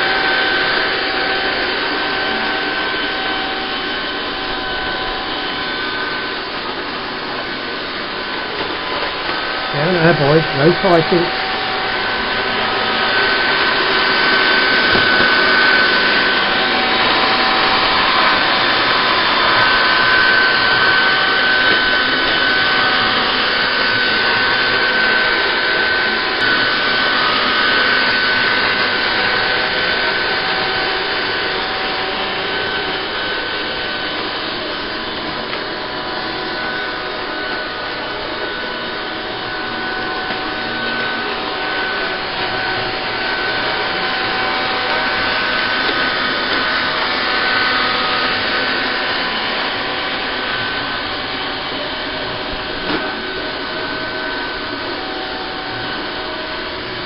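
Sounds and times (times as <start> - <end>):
robot vacuum whirring with whine: 0.0 - 57.0.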